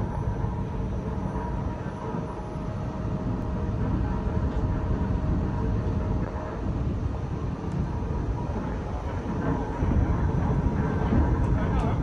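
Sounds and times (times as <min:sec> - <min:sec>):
faint steady whine: 0:00.0 - 0:12.0
low mechanical rumble: 0:00.0 - 0:12.0.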